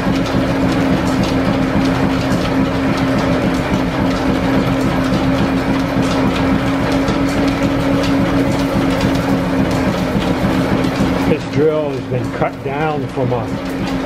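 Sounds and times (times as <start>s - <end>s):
lathe mechanical hum: 0.0s - 14.0s.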